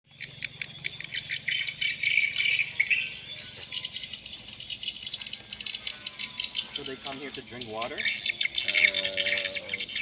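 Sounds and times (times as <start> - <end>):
swiftlets twittering: 0.1 - 10.0.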